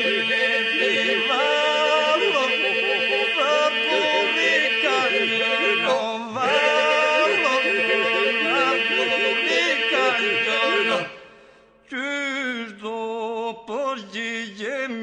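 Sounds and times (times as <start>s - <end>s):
polyphonic devotional singing: 0.0s - 15.0s.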